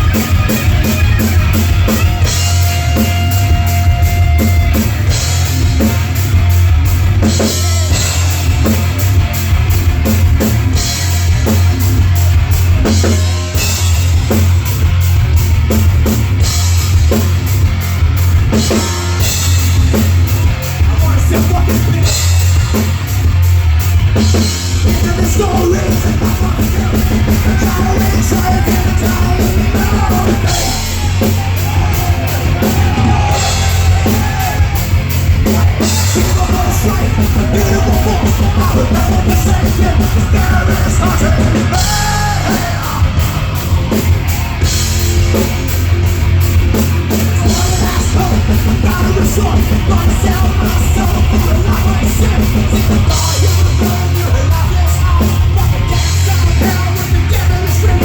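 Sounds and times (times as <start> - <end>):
driving drum kit: 0.0 - 58.0
live rock band: 0.0 - 58.0.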